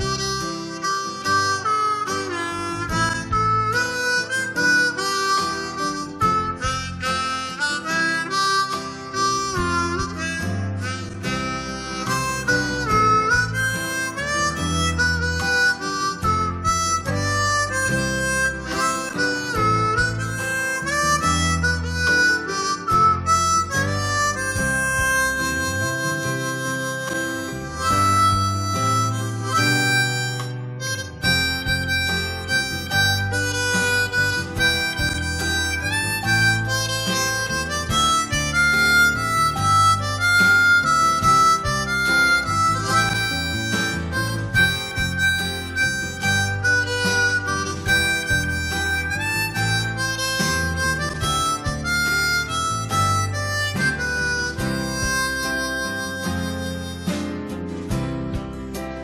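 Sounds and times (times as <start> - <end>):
harmonica playing a melody: 0.0 - 58.8
low bass accompaniment: 0.0 - 59.0.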